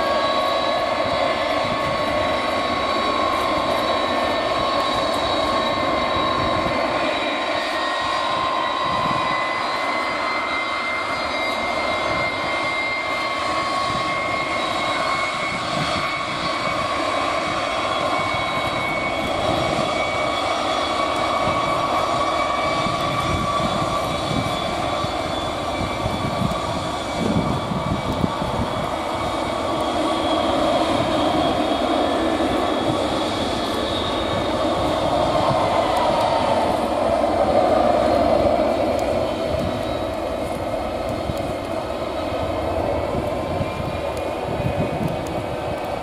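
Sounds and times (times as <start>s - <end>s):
jet engines whining and roaring: 0.0s - 46.0s.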